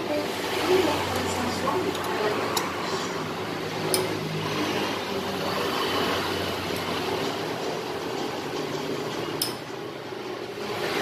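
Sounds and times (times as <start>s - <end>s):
mechanical background noise: 0.0s - 11.0s.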